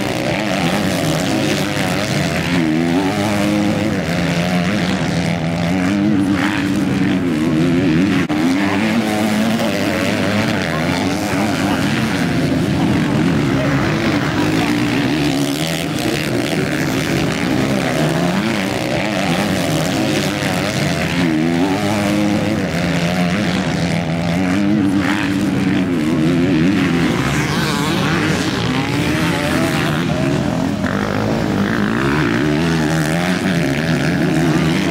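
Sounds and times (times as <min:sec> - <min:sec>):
motocross engines revving: 0:00.0 - 0:34.9.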